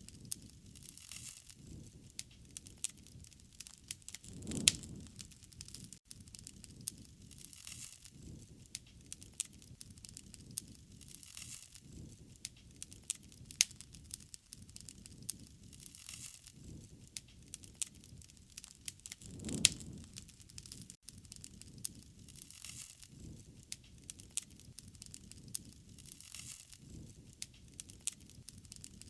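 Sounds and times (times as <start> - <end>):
burning wood popping: 0.0 - 29.0
campfire crackling: 0.0 - 29.0
rushing of flames: 0.0 - 29.0.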